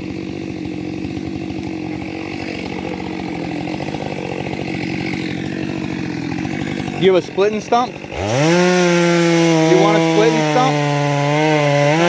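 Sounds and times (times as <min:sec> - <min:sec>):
chainsaw cutting tree trunk: 0:00.0 - 0:12.0.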